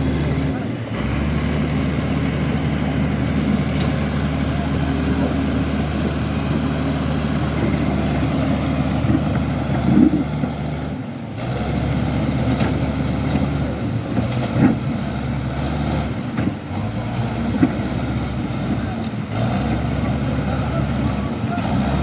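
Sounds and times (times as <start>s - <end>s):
bulldozer diesel engine: 0.0s - 22.0s.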